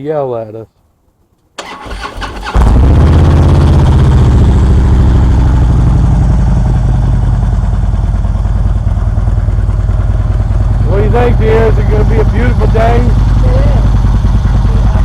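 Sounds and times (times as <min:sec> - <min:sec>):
motorcycle engine cranking and idling: 0:01.4 - 0:15.0.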